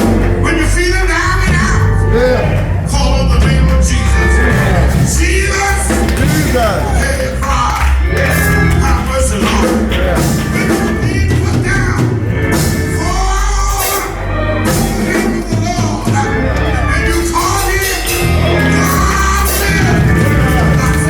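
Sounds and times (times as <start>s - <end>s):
band with heavy bass line: 0.0s - 21.0s
people singing: 0.0s - 21.0s.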